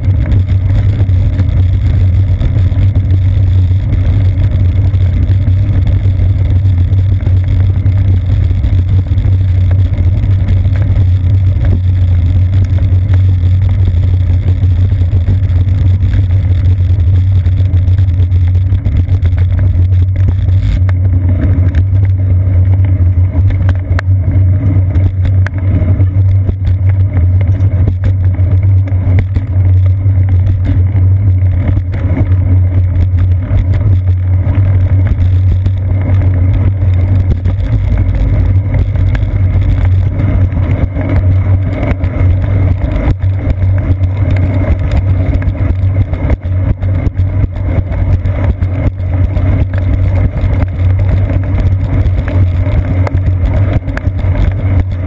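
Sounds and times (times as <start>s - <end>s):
bicycle rolling on wet pavement: 0.0s - 55.0s.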